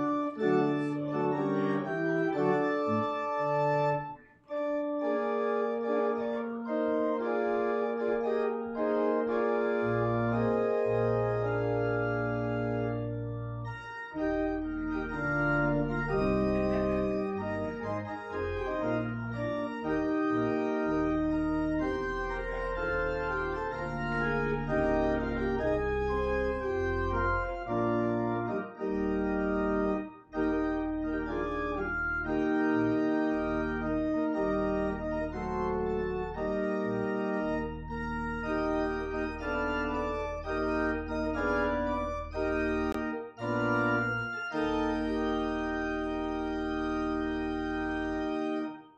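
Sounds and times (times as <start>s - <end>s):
organ chords: 0.0s - 48.9s.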